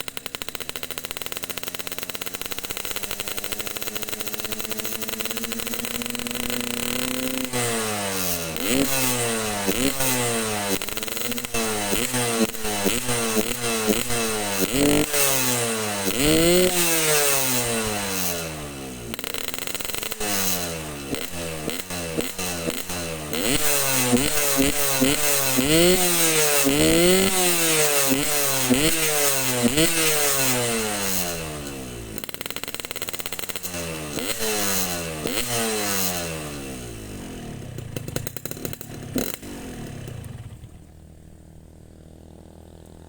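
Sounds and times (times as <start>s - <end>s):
two-stroke motorcycle engine revving: 0.0s - 43.0s.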